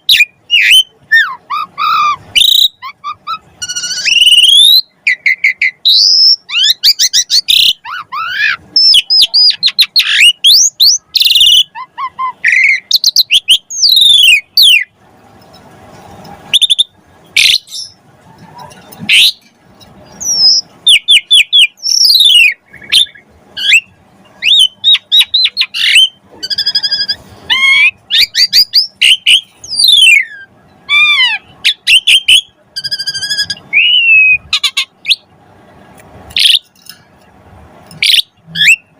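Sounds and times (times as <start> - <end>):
starling singing whistles and chatter: 0.0 - 15.0, 16.5 - 35.3, 36.4 - 36.8, 38.0 - 38.9.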